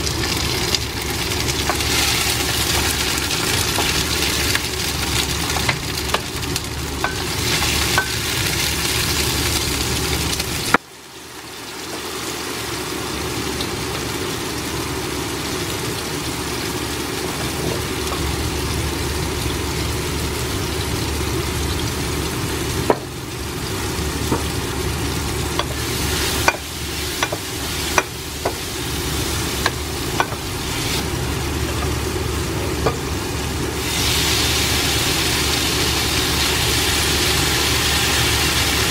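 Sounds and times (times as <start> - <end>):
vegetables sizzling in a pan: 0.0 - 38.9.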